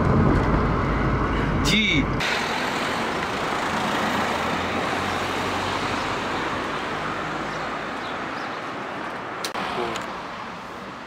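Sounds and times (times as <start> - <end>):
road traffic rushing hiss: 0.9 - 11.0.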